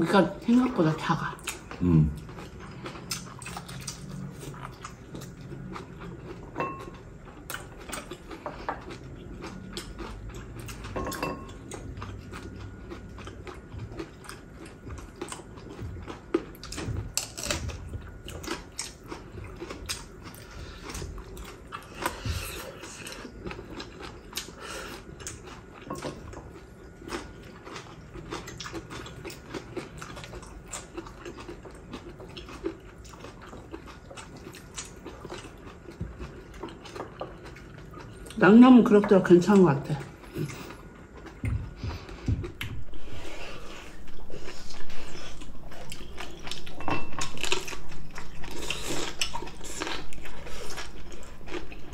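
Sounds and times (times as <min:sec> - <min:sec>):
people chewing food: 0:00.0 - 0:51.9.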